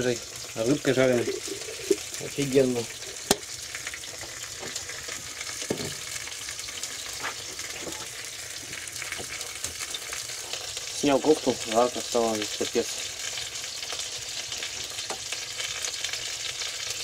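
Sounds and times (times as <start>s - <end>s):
fish sizzling in frying pan: 0.0s - 17.0s.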